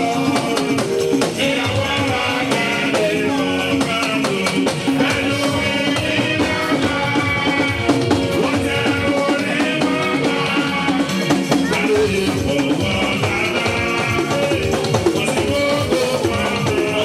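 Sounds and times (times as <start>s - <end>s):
drums keeping steady beat: 0.0s - 17.0s
praise music: 0.0s - 17.0s.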